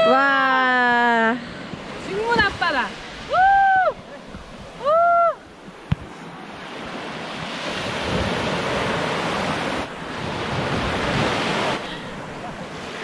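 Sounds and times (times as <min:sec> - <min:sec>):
sea surf washing ashore: 0:00.0 - 0:13.0.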